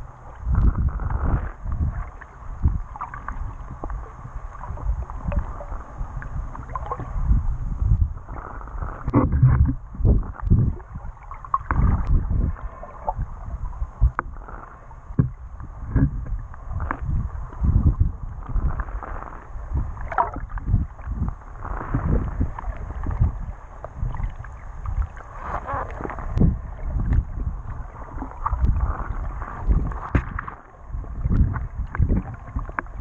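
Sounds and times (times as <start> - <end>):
muffled underwater sloshing: 0.0 - 33.0.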